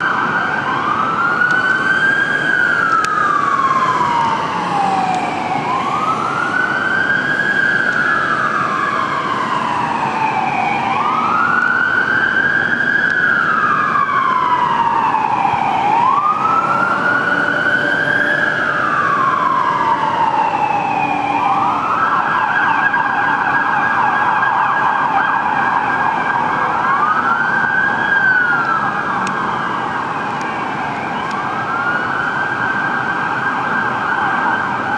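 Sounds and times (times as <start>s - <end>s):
low rumble of trucks: 0.0s - 24.1s, 25.9s - 34.9s
fire engine sirens wailing: 0.0s - 34.9s
siren holding steady high pitch: 0.0s - 34.9s.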